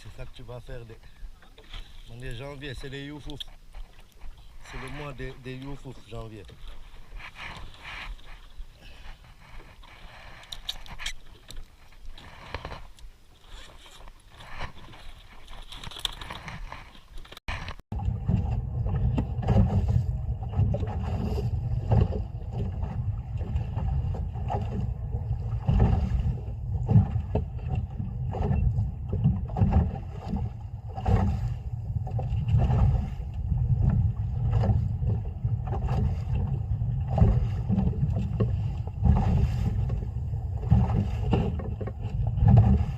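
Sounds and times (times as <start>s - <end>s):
water knocking and slapping boat: 0.0s - 42.9s
wind and water rumbling: 0.0s - 42.9s.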